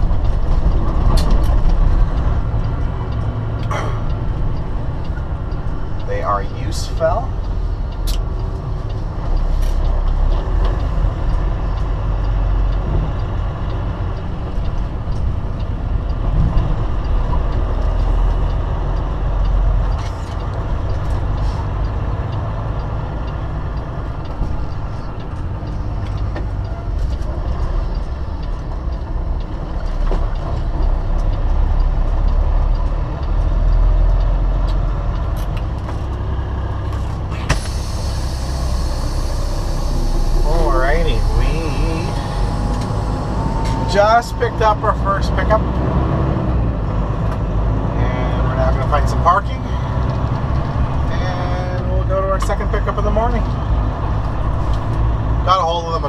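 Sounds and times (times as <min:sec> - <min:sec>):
truck engine and road rumble: 0:00.0 - 0:56.0.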